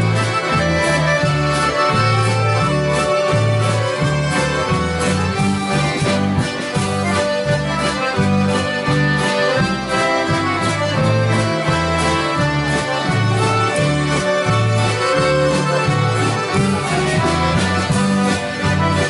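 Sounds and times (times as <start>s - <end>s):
accordions playing a tune: 0.0s - 19.0s
acoustic guitars strumming: 0.0s - 19.0s
bass line: 0.0s - 19.0s.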